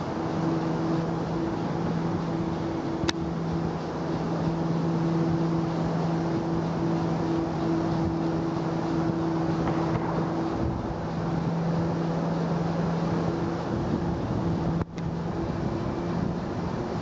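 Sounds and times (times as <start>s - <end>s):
low mechanical hum: 0.0s - 17.0s
rushing outdoor noise: 0.0s - 17.0s.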